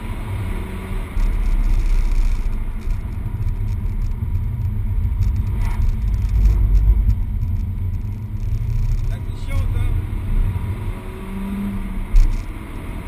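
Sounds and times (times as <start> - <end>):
car interior road and engine rumble: 0.0 - 13.0.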